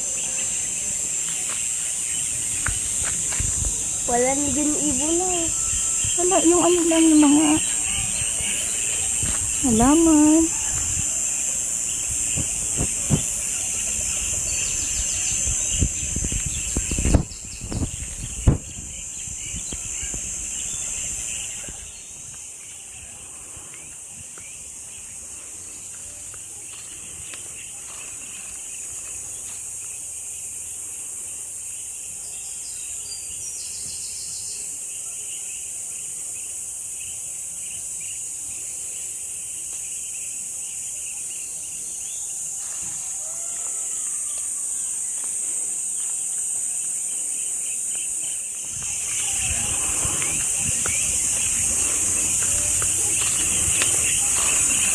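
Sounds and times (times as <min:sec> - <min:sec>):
insects droning in trees: 0:00.0 - 0:54.9.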